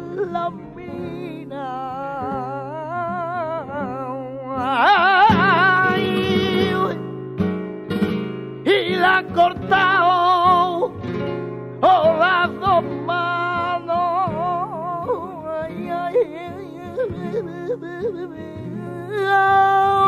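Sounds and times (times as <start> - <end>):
person singing with vibrato: 0.0 - 7.2, 8.6 - 11.2, 11.8 - 20.0
strummed acoustic guitar: 0.0 - 20.0.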